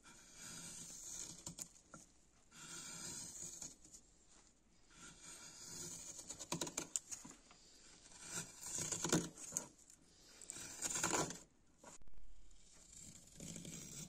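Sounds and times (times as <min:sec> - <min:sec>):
knife scraping wood: 0:00.0 - 0:04.1, 0:04.8 - 0:12.0, 0:12.6 - 0:14.0.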